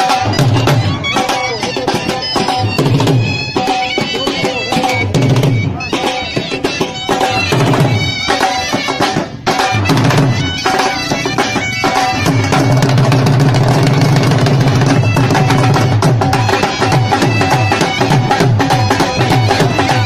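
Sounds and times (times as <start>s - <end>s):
drum beating steady rhythm: 0.0s - 20.0s
reedy wind instrument melody: 0.0s - 20.0s.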